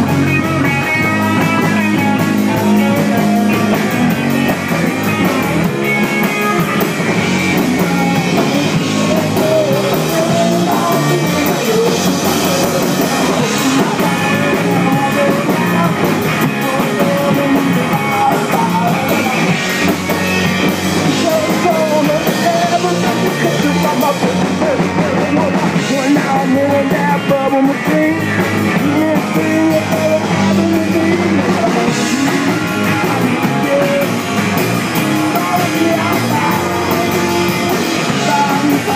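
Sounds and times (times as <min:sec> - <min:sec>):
drum kit: 0:00.0 - 0:38.9
electric guitar: 0:00.0 - 0:38.9
person singing: 0:00.0 - 0:38.9.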